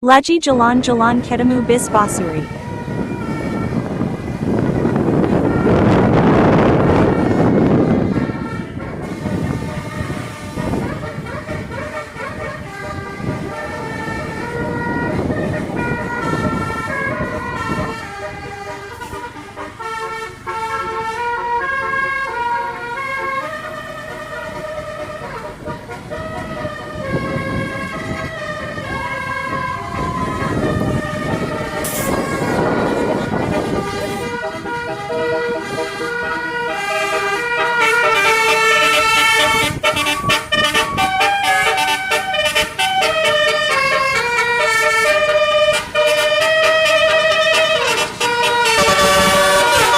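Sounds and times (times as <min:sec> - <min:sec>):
bus multi-tone horn tune: 0:00.0 - 0:49.9
road and engine rumble: 0:00.0 - 0:49.9.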